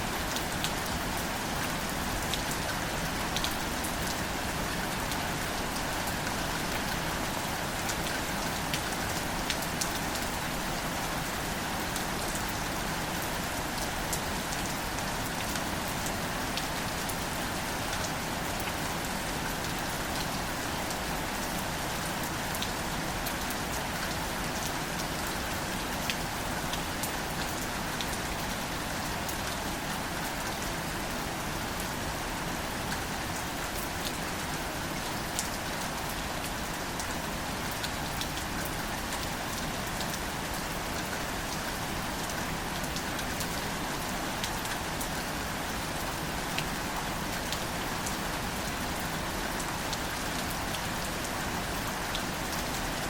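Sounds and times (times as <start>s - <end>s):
light rain on leaves: 0.0s - 53.0s.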